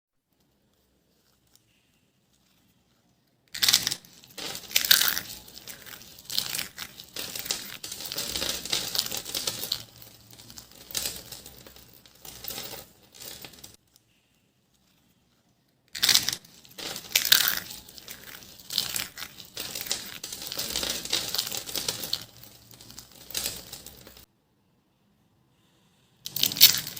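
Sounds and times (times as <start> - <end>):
dry soap crackling and crunching: 0.3 - 24.3, 26.3 - 26.9.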